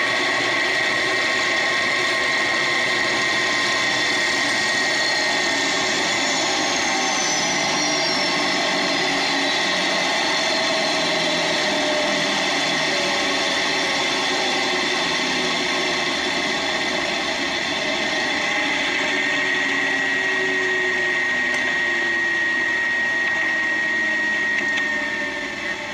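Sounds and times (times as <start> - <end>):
rc helicopter motor whining: 0.0 - 25.9.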